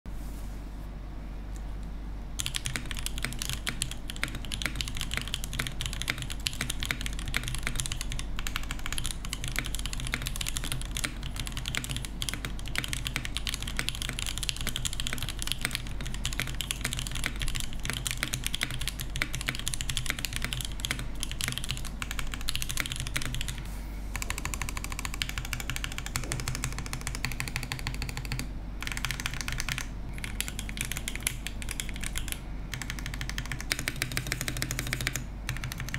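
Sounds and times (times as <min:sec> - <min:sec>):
mechanical keyboard typing: 0:02.4 - 0:23.6, 0:24.2 - 0:35.9.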